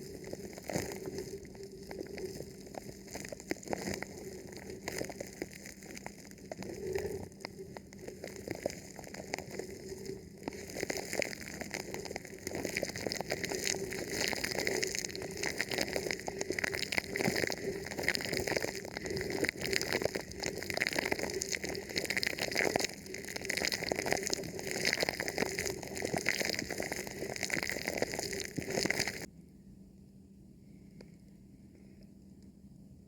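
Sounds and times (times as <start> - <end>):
plastic crinkling on microphone: 0.0 - 29.3.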